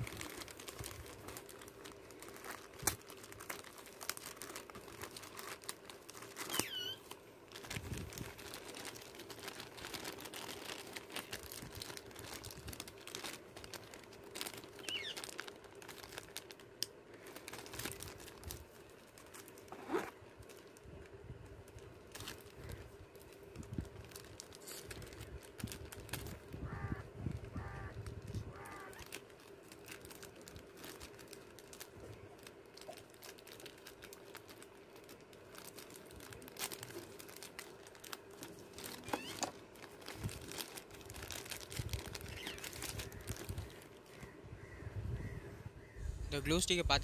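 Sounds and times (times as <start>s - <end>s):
plastic packaging crinkling: 0.0s - 44.2s.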